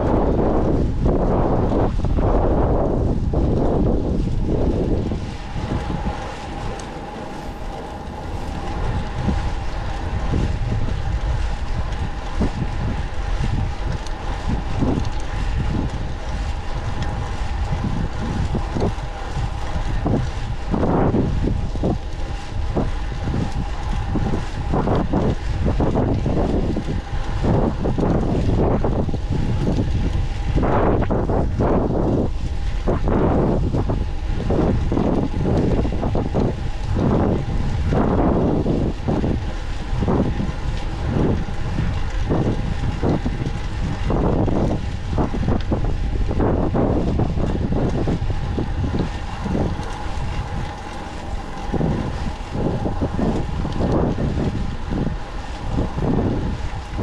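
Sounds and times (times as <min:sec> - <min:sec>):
bicycle road rumble: 0:00.0 - 0:57.0
faint steady hum: 0:00.0 - 0:57.0
wind buffeting microphone: 0:00.0 - 0:57.0.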